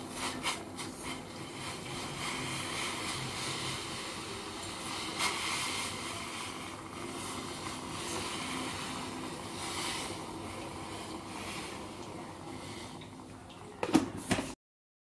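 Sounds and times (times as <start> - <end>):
water boiling in a pot: 0.0 - 14.5.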